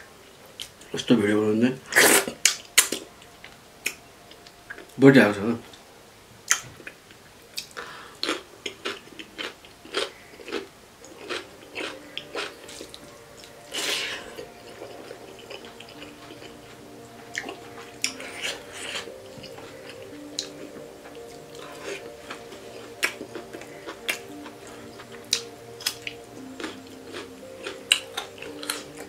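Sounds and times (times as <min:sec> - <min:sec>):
faint background music: 0:00.0 - 0:29.0
person chewing food: 0:01.9 - 0:05.0, 0:06.5 - 0:29.0.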